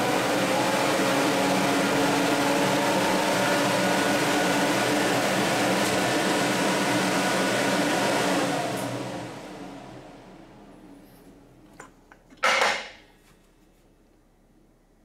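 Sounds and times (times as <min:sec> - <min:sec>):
cooling fan and water cooler running: 0:00.0 - 0:15.0.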